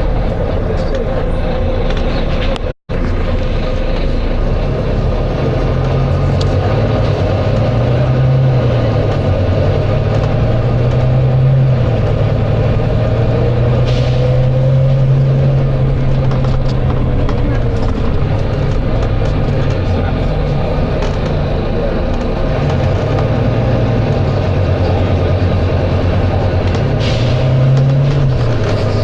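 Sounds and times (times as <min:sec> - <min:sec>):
bus diesel engine droning: 0:00.0 - 0:29.0.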